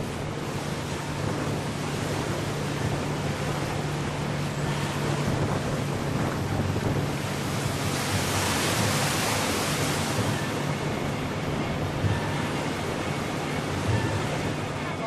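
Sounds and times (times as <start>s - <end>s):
boat motor hum: 0.0s - 15.0s
water rushing along hull: 0.0s - 15.0s
wind buffeting microphone: 0.0s - 15.0s.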